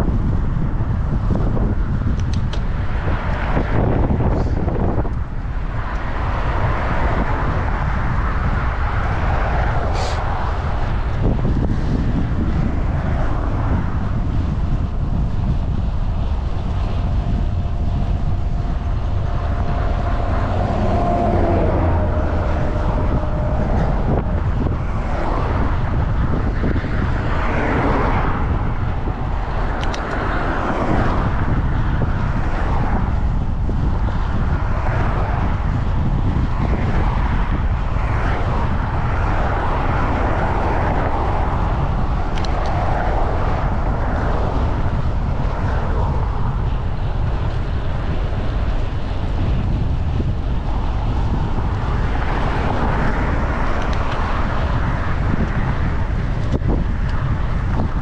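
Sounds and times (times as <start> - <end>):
steady whining tone: 0.0 - 58.0
wind rush on microphone: 0.0 - 58.0.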